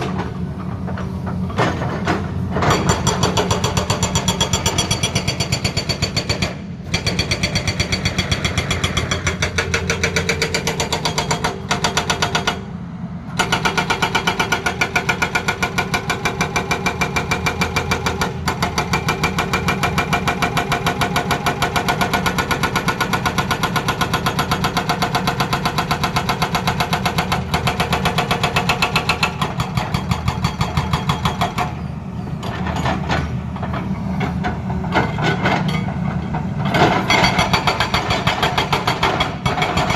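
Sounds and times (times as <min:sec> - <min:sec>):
hydraulic rock breaker hammering: 0:00.0 - 0:12.7, 0:13.3 - 0:31.8, 0:32.4 - 0:39.9.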